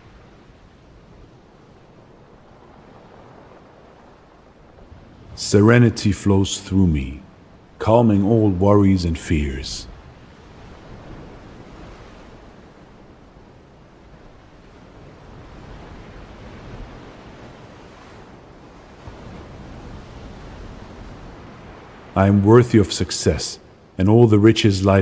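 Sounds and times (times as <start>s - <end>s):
ocean surf washing: 2.0s - 12.9s, 15.0s - 25.0s.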